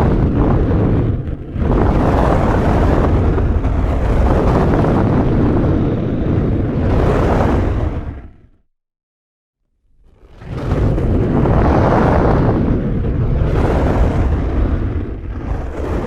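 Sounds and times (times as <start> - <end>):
large fire roaring: 0.0 - 8.7, 9.9 - 16.0.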